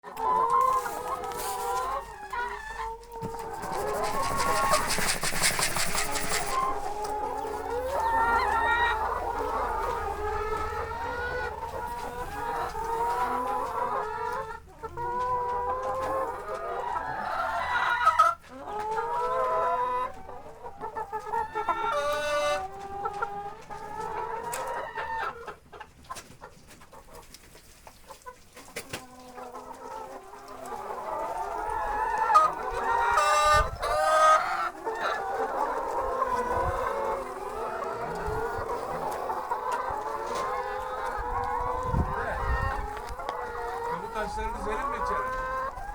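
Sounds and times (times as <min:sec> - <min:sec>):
chickens clucking and calling: 0:00.0 - 0:45.9.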